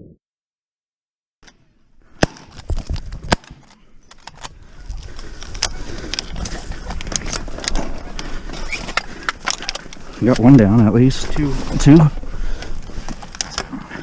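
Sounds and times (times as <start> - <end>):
small clicks and rustling: 2.5 - 14.0.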